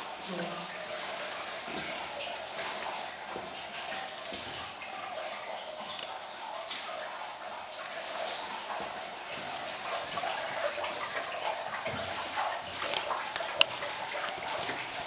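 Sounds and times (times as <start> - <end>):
water trickling in a cave: 0.0 - 15.0.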